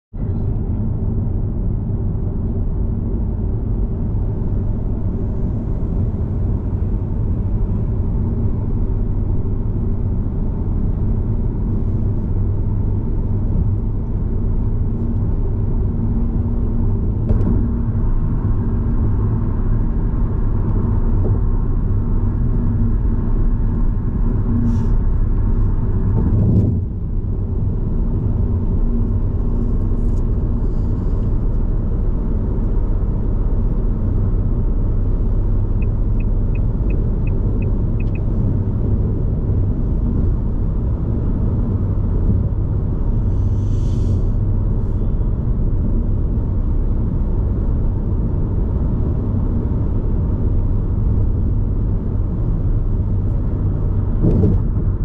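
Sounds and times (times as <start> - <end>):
car engine and tyres rumbling: 0.1 - 55.0.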